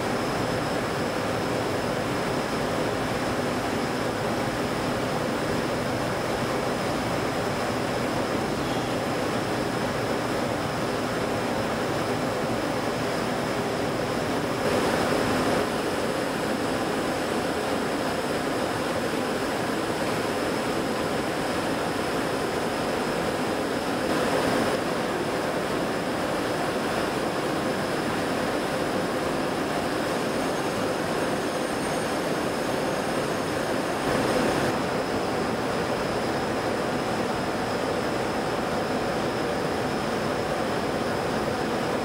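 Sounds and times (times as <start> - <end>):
faint high whine: 0.0 - 42.0.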